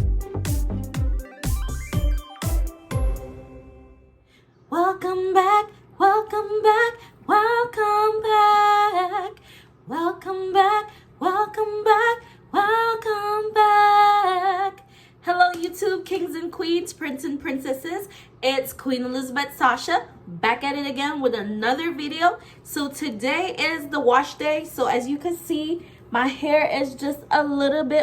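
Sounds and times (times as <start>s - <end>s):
woman singing unaccompanied: 4.7s - 28.0s.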